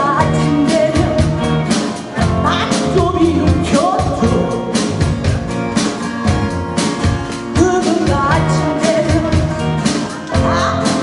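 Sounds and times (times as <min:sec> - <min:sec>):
person singing: 0:00.0 - 0:05.2, 0:05.8 - 0:11.0
live rock band music: 0:00.0 - 0:11.0.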